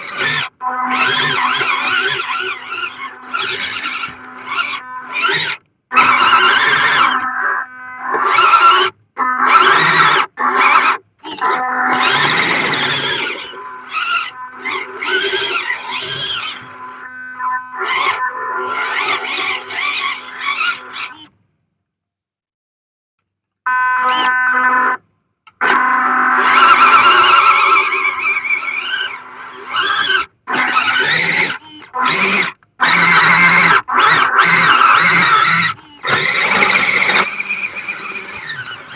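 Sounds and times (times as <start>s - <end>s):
electric motor whining: 0.0s - 21.3s, 25.6s - 38.9s.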